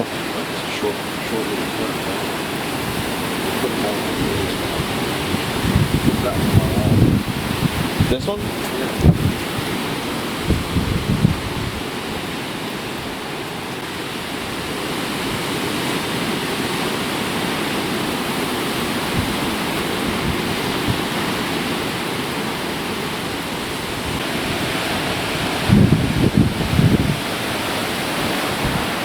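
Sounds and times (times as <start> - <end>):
hurricane wind and rain: 0.0 - 29.0.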